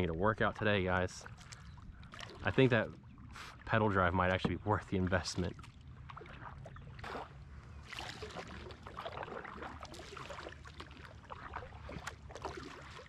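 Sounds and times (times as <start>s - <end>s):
paddle splashing in water: 0.4s - 13.0s.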